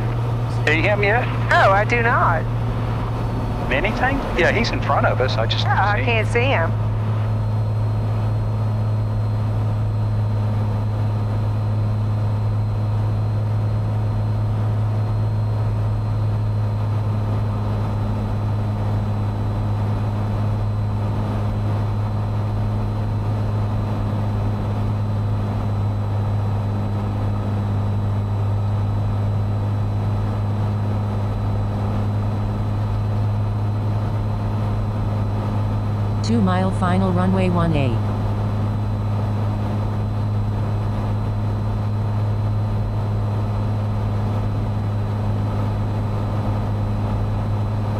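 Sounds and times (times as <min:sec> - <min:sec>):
propeller plane engine drone: 0:00.0 - 0:47.9.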